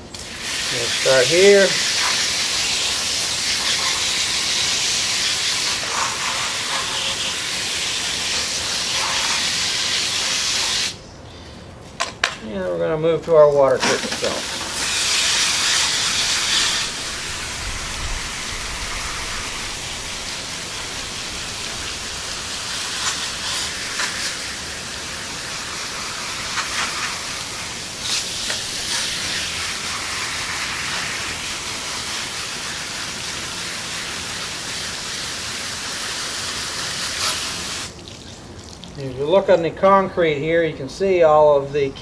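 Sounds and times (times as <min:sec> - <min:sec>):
water spray hissing: 0:00.1 - 0:11.0, 0:13.8 - 0:39.1.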